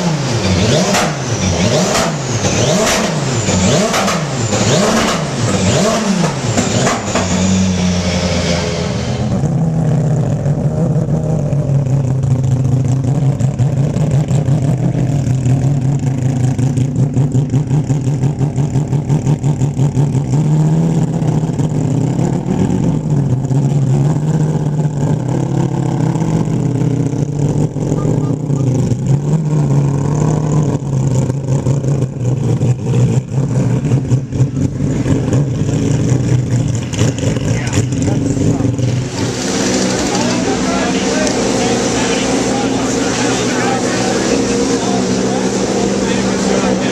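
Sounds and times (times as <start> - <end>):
race car engine pulsing: 0.0 - 46.9.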